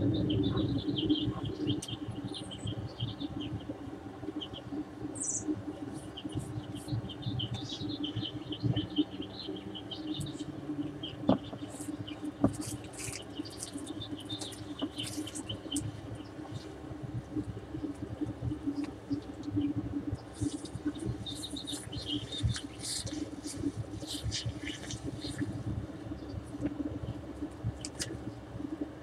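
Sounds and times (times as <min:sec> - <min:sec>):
low steady hum: 0:00.0 - 0:29.0
small birds chirping: 0:00.0 - 0:29.0.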